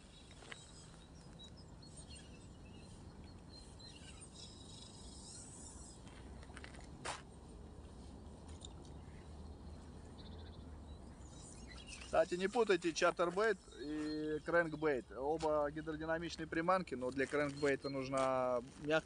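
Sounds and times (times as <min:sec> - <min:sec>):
faint bird chirps: 0:00.0 - 0:06.8, 0:07.4 - 0:19.0.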